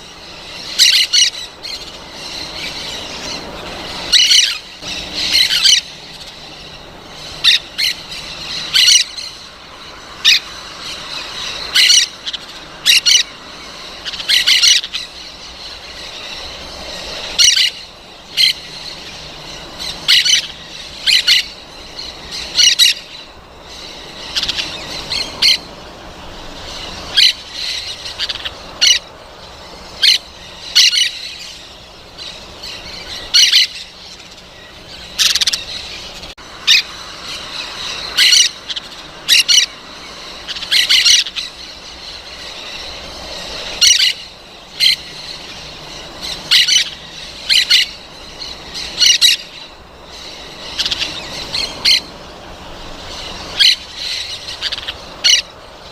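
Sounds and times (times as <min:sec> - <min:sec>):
parrots squawking: 0:00.0 - 0:55.9.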